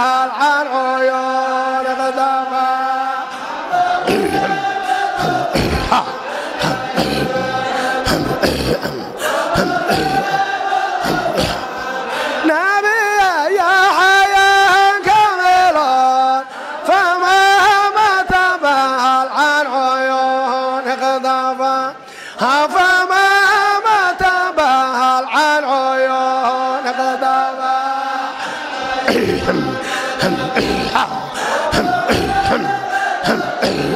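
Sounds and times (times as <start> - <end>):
person chanting devotional song: 0.0 - 33.9.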